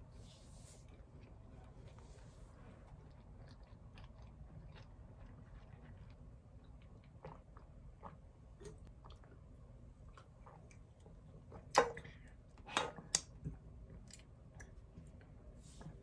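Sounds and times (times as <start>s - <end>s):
quiet chewing: 0.6s - 16.0s.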